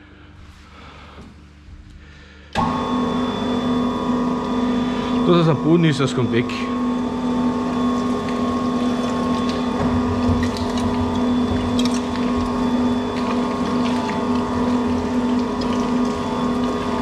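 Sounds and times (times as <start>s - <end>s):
meat grinder motor hum: 2.6s - 17.0s.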